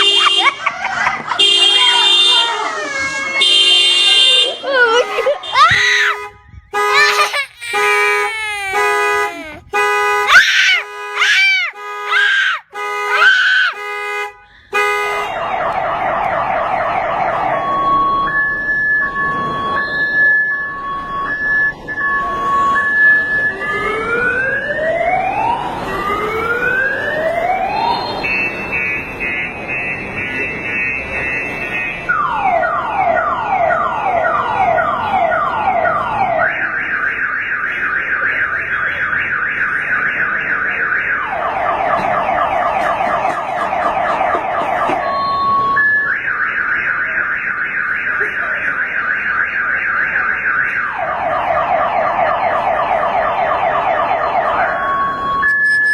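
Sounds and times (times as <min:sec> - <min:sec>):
car alarm siren: 0:00.0 - 0:02.7, 0:03.4 - 0:55.9.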